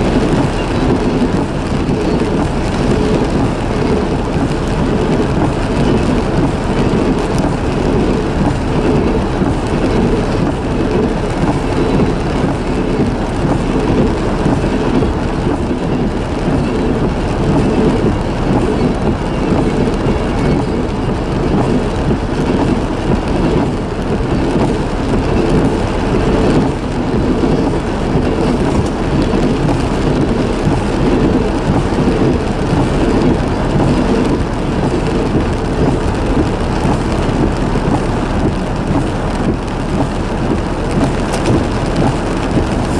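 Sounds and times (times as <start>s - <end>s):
train wheels roaring on rails: 0.0s - 42.9s.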